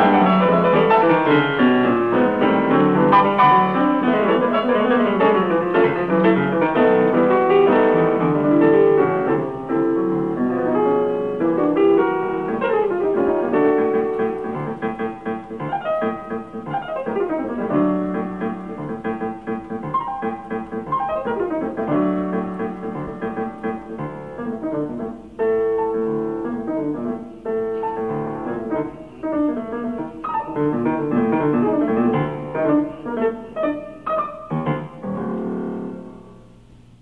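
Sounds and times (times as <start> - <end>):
solo jazz piano: 0.0 - 37.0.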